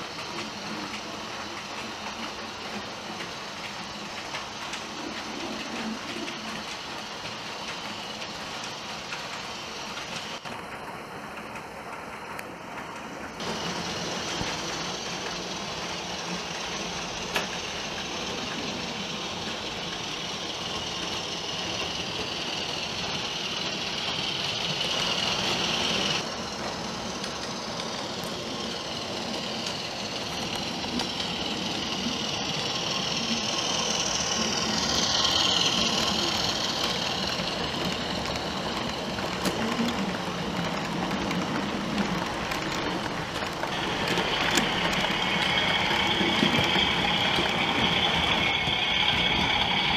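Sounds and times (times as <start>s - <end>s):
model locomotive diesel engine sound: 0.0s - 49.9s
model wheels and motors hissing: 0.0s - 49.9s.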